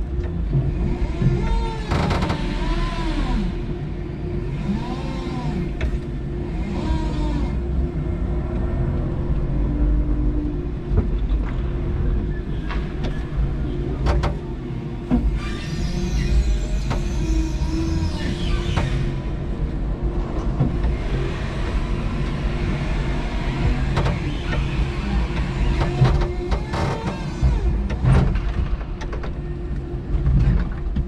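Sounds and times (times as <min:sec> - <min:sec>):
forklift hum and rumble: 0:00.0 - 0:31.0.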